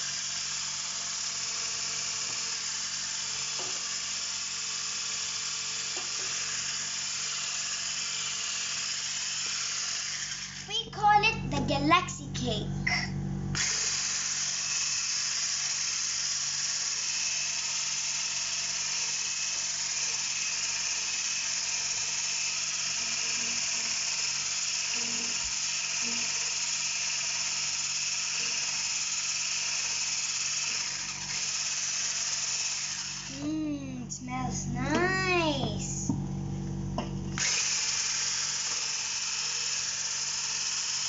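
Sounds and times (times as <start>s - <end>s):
hand blender whisking batter: 0.0s - 11.8s, 13.6s - 36.1s, 37.4s - 41.0s.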